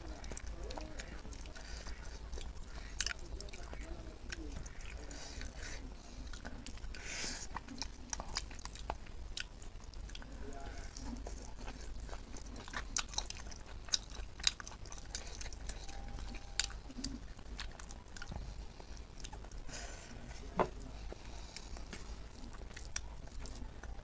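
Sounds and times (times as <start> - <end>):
person chewing: 0.0 - 24.0.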